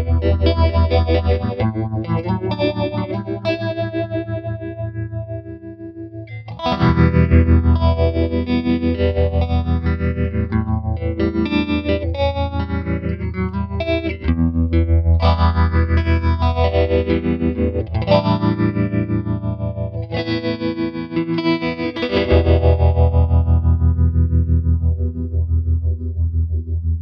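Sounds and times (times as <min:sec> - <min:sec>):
electric guitar chords with phaser: 0:00.0 - 0:27.0.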